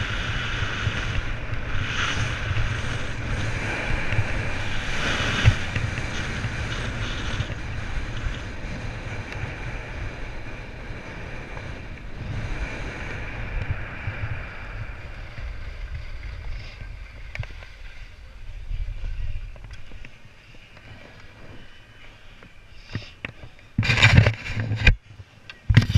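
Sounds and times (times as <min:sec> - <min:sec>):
skis scraping over snow: 0:00.0 - 0:25.0
wind rumbling on microphone: 0:00.0 - 0:25.9.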